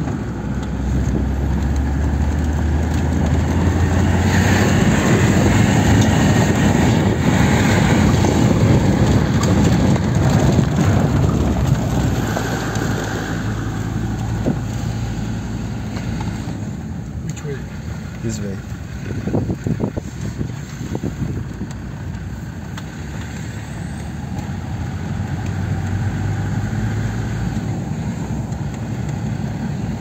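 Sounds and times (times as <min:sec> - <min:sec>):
low engine hum: 0:00.0 - 0:30.0
vehicle rumble and rattle: 0:00.0 - 0:30.0.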